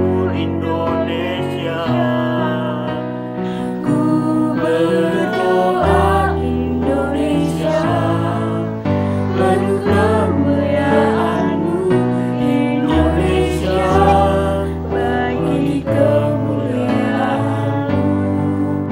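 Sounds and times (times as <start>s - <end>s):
choir singing in harmony: 0.0s - 18.9s
instrumental accompaniment: 0.0s - 18.9s.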